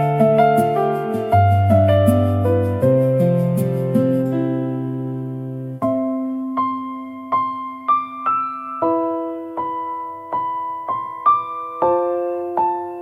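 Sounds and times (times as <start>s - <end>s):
gentle electric piano melody: 0.0s - 13.0s.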